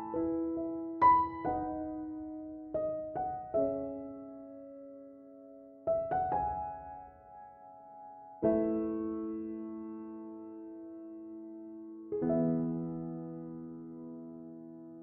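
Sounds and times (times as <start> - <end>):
soft solo piano music: 0.0 - 15.0.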